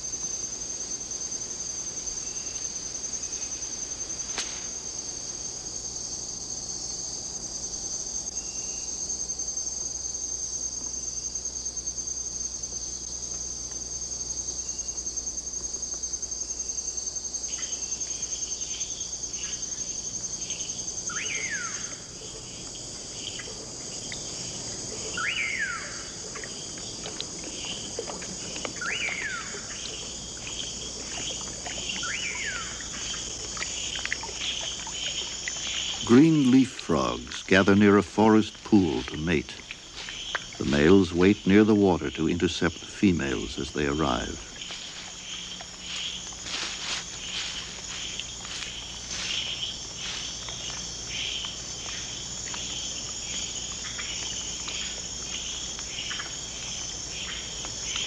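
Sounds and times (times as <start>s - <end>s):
insects trilling: 0.0s - 58.0s
short insect chirps: 0.0s - 58.0s.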